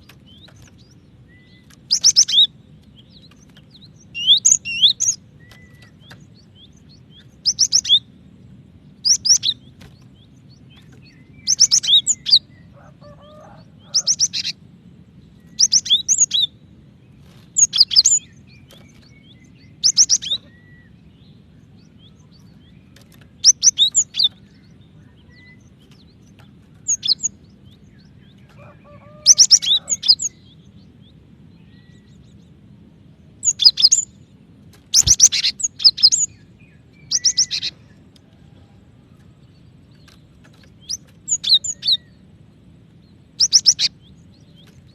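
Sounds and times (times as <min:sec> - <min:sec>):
bird chirping rapidly: 0:00.0 - 0:14.6, 0:15.3 - 0:16.7, 0:17.5 - 0:32.3, 0:33.3 - 0:34.2, 0:34.8 - 0:38.0, 0:40.0 - 0:42.4, 0:43.1 - 0:44.9.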